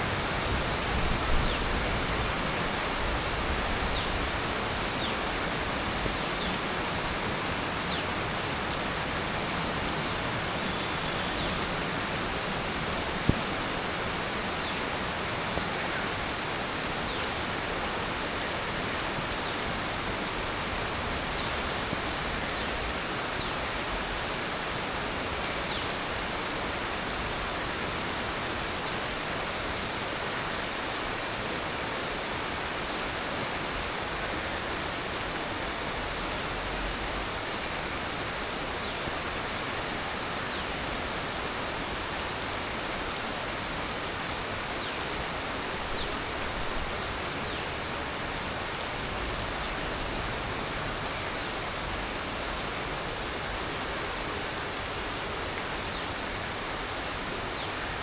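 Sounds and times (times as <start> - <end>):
heavy rain on leaves and roofs: 0.0 - 58.0.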